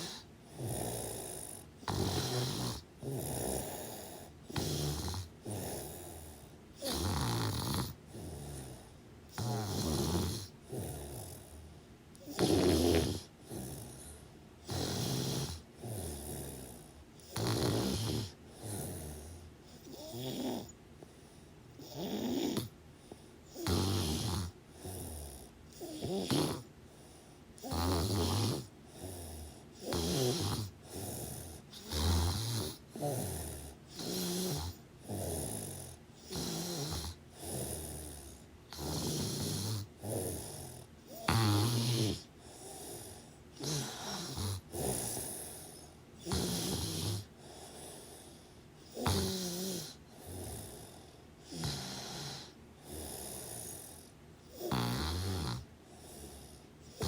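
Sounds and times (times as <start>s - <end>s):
rasping rhythmic snoring: 0.0s - 57.0s.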